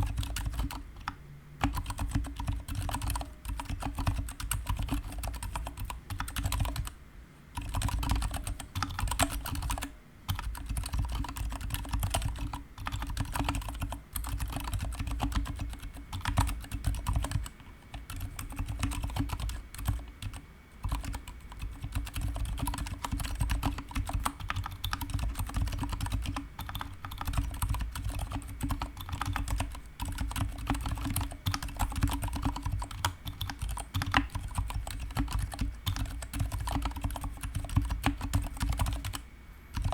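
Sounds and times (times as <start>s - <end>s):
typing on mechanical keyboard: 0.0s - 7.0s, 7.6s - 39.9s.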